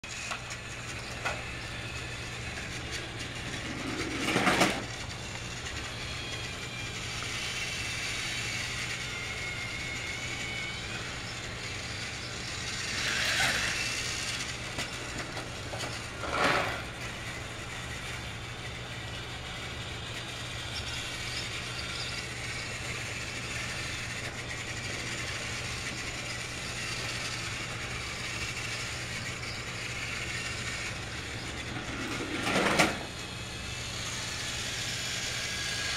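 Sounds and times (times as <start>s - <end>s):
toy train motor whir: 0.0s - 35.9s
toy train track rattle: 0.0s - 35.9s.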